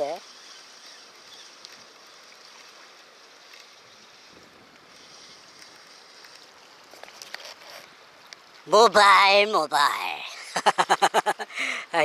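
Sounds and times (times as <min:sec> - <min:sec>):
sea water washing on shore: 0:00.0 - 0:12.0.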